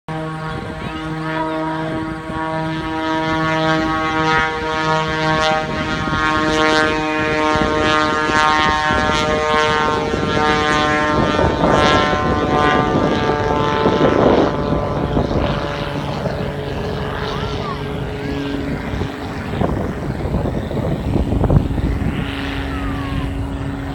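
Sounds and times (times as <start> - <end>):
propeller plane engine buzzing: 0.1 - 23.9.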